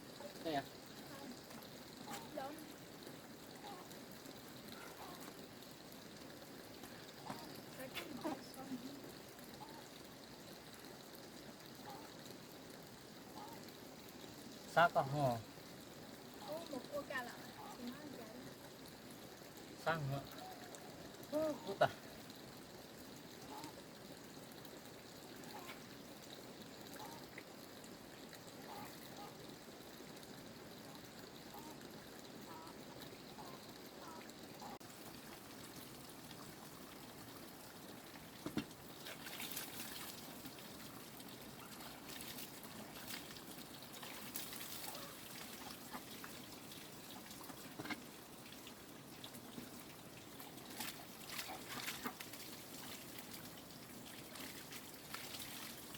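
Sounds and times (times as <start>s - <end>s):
faint trickling water: 0.0s - 55.9s.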